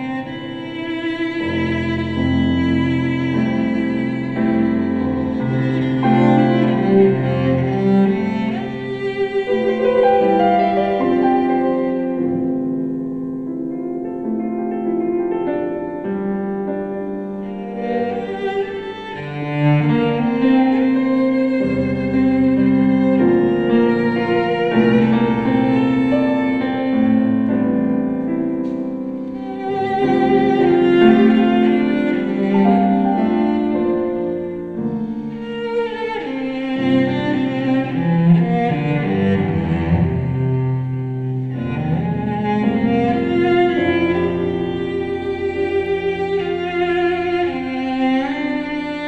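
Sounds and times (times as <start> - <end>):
cello melody: 0.0 - 49.0
piano accompaniment: 0.0 - 49.0.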